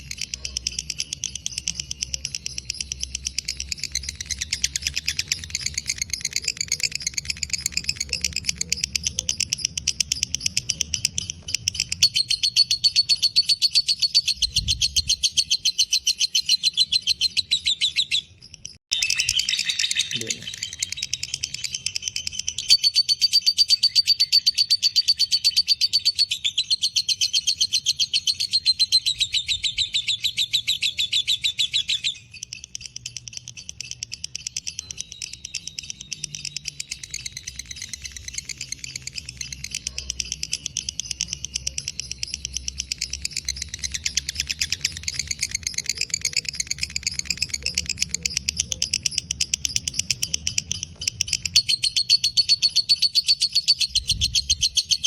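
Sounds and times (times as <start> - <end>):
lovebird chattering trill: 0.0 - 55.0.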